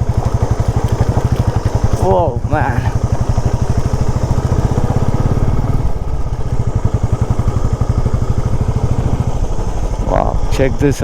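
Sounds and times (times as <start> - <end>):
motorcycle engine pulling low speed: 0.0 - 11.0.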